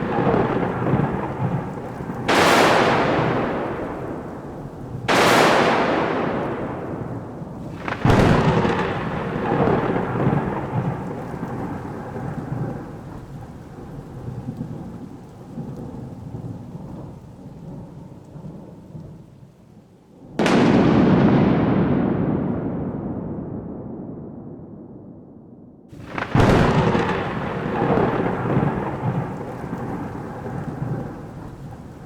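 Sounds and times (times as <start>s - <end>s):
thunder claps: 0.0s - 15.0s, 20.4s - 32.0s.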